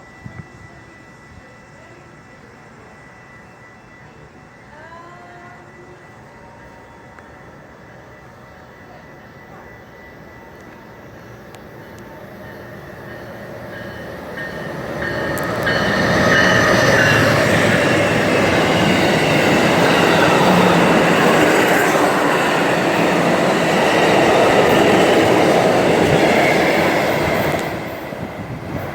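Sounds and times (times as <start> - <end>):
train wheels on rails: 5.1 - 28.9.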